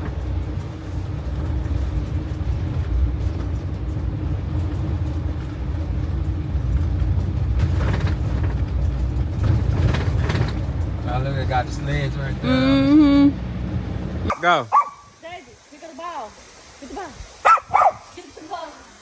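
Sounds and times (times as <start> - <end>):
vehicle engine and tyres rumbling: 0.0 - 15.7.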